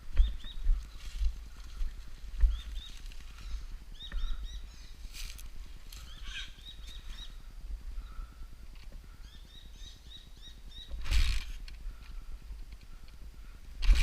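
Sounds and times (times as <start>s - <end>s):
birds chirping: 0.0s - 13.6s.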